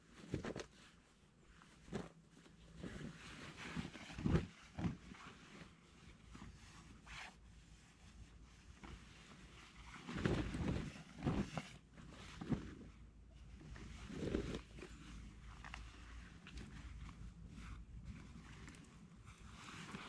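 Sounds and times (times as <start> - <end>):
fabric rustling and flapping: 0.0 - 20.0.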